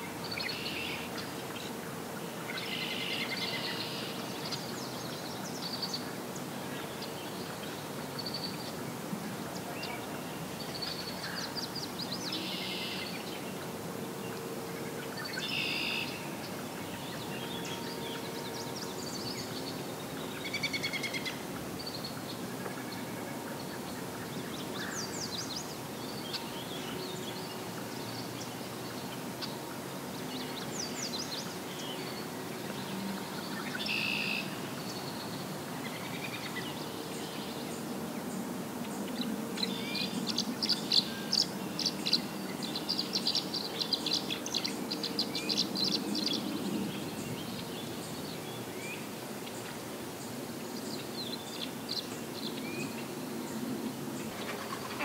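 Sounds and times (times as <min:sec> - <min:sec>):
wild birds singing and calling: 0:00.0 - 0:55.0.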